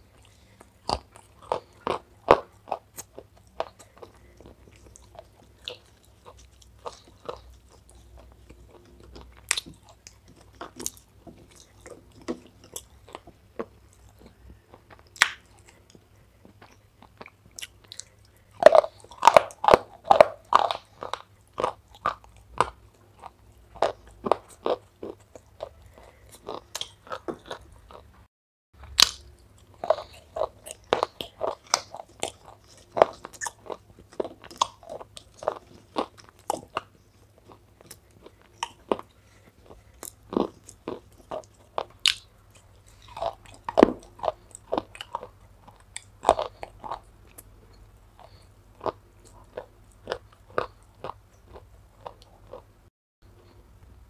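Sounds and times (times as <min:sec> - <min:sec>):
person chewing crunchy clay: 0:00.0 - 0:28.2, 0:28.8 - 0:53.6.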